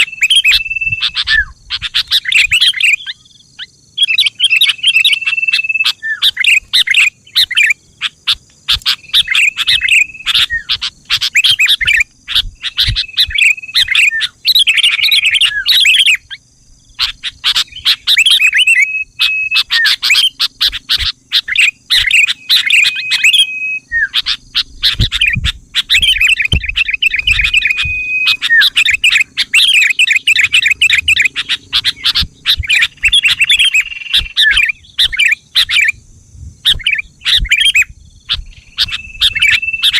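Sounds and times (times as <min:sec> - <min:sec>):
bulbul chirping and warbling: 0:00.0 - 0:16.4, 0:17.0 - 0:35.9.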